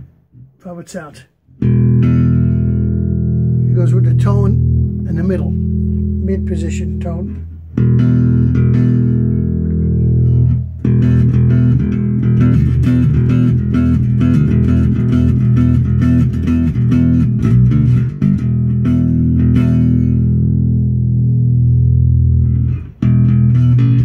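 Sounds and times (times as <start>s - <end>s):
electric bass guitar notes: 0.0s - 24.0s.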